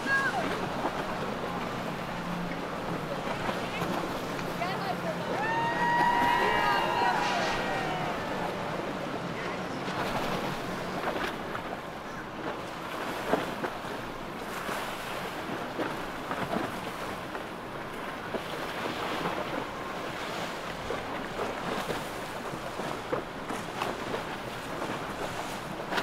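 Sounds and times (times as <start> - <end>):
powerboat engine: 0.0 - 26.0
waves on open water: 0.0 - 26.0.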